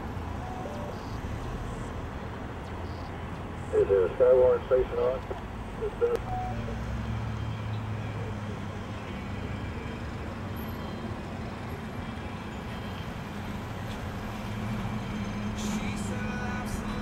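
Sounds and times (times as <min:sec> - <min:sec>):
car road noise from cabin: 0:00.0 - 0:17.0
low engine hum: 0:00.0 - 0:17.0.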